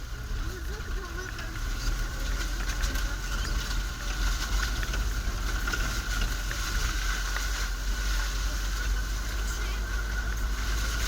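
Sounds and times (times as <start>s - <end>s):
vehicle engine rumble and whine: 0.0s - 11.0s.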